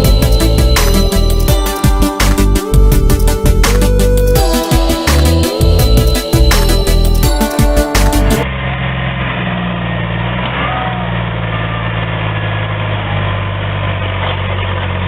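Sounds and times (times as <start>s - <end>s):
heavy vehicle engine idling: 0.0s - 15.0s.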